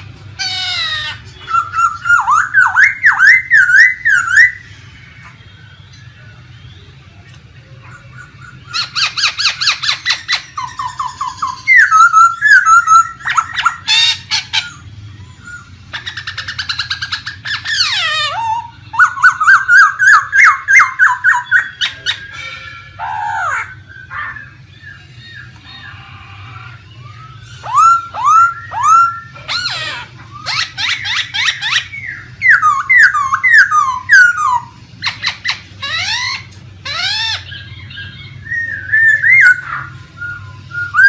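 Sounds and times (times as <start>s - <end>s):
bird singing trills and whistles: 0.0s - 41.0s.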